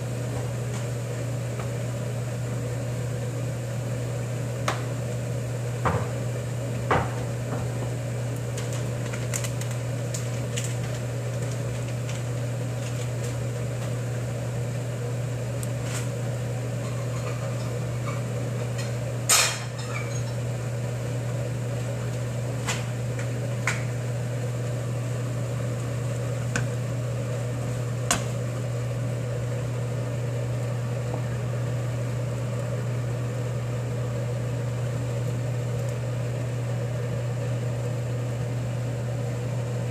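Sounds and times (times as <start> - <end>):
kitchen machine humming: 0.0 - 39.9.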